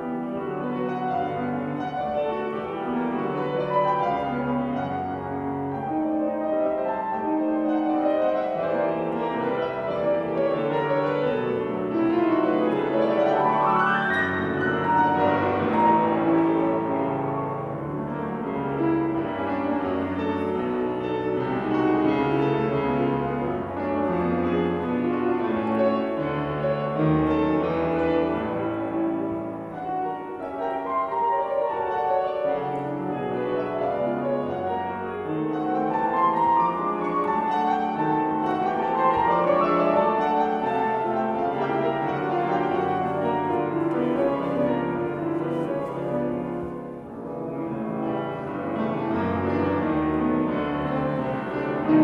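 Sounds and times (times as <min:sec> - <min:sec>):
grand piano playing: 0:00.0 - 0:52.0.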